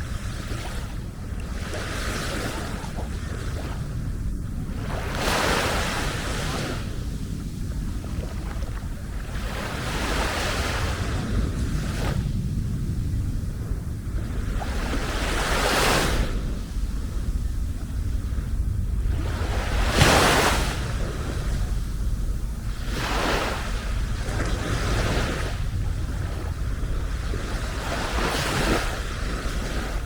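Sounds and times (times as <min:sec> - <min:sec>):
steady low rumble: 0:00.0 - 0:30.0
waves washing up a beach: 0:00.0 - 0:30.0.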